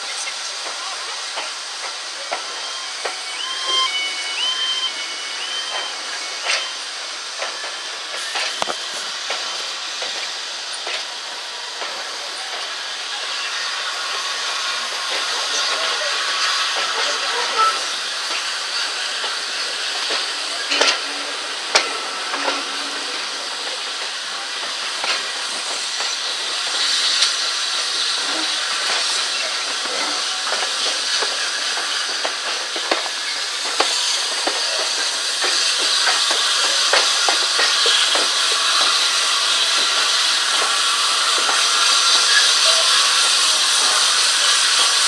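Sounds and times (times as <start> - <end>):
steam train hissing: 0.0 - 45.0.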